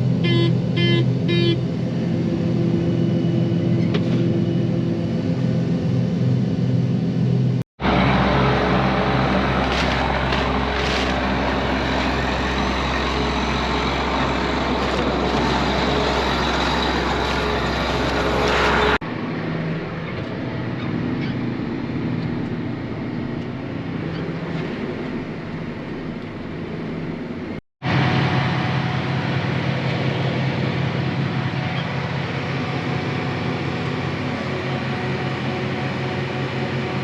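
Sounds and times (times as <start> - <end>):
combine harvester engine running: 0.0 - 37.0.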